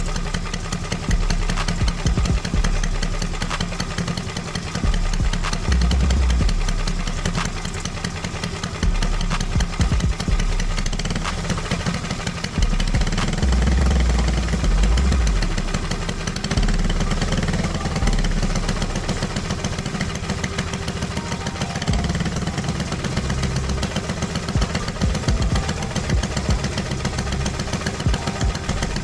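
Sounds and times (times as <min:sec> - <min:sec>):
kart engine revving: 0:00.0 - 0:29.0.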